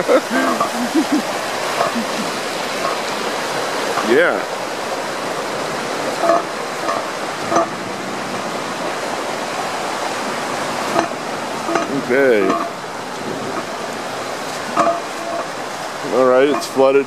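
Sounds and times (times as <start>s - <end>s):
water rushing and churning: 0.0s - 17.0s.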